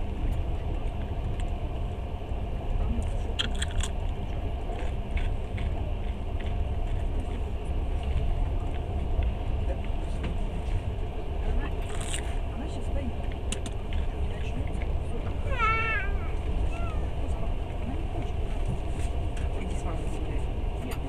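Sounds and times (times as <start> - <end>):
train carriage rumble: 0.0 - 21.0.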